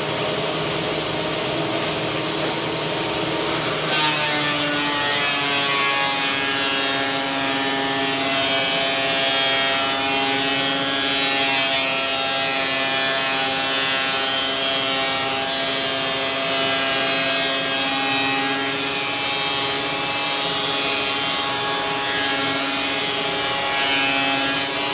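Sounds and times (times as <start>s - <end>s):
thickness planer running: 0.0s - 24.9s.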